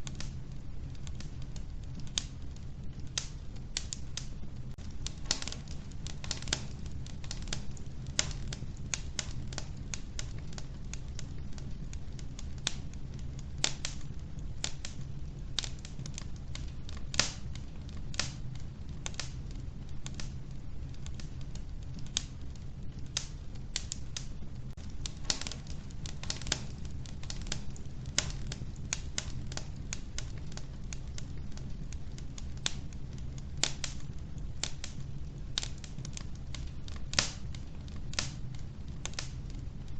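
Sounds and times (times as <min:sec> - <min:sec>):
wood stove fire crackling: 0:00.0 - 0:39.9.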